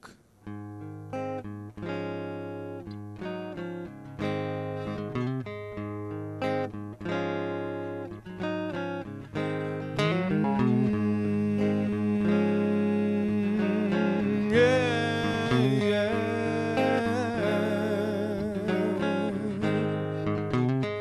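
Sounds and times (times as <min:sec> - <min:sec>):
rock guitar playing: 0:00.4 - 0:21.0.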